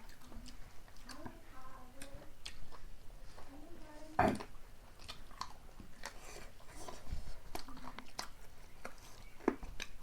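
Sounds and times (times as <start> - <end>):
person chewing with wet mouth clicks: 0.0 - 1.3, 2.0 - 3.4, 4.2 - 10.0.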